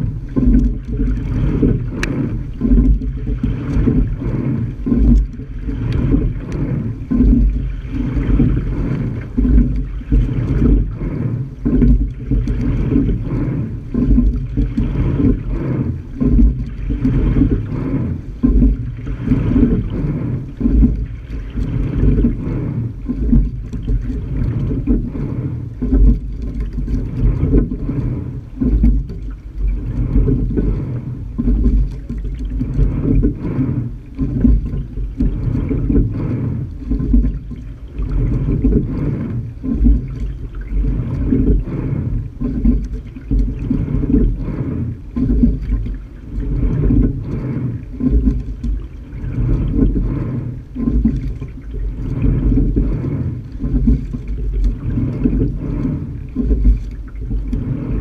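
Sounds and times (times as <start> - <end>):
oars and rigging knocking: 0.0 - 58.0
steady low rumble: 0.0 - 58.0
water rushing past hull: 0.0 - 58.0.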